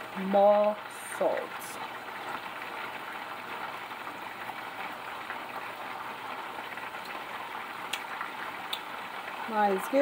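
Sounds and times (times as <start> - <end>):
water boiling in a saucepan: 0.0 - 10.0.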